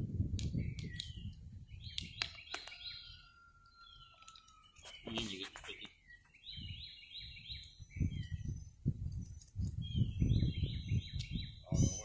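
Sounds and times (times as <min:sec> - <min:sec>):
songbird chirping: 0:00.3 - 0:12.0.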